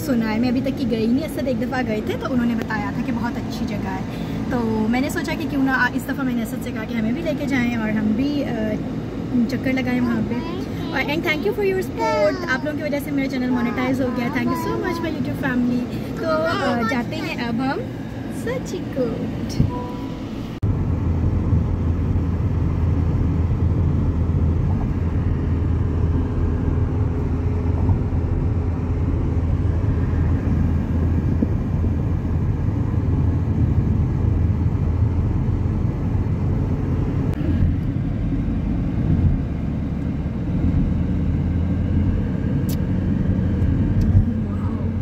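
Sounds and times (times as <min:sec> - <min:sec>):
car cabin road drone: 0:00.0 - 0:45.0.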